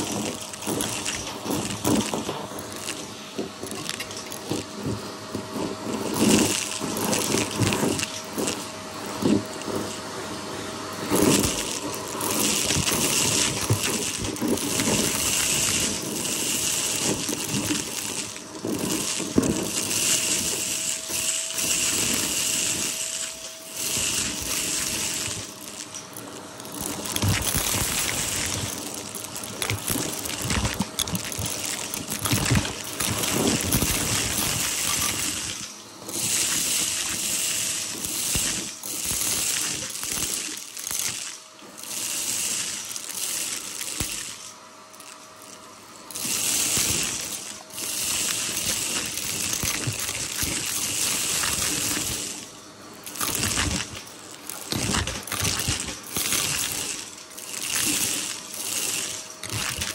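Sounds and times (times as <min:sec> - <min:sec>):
debris clicking and rattling: 0:00.0 - 0:10.0, 0:11.0 - 0:59.9
vacuum cleaner running: 0:00.0 - 0:59.9.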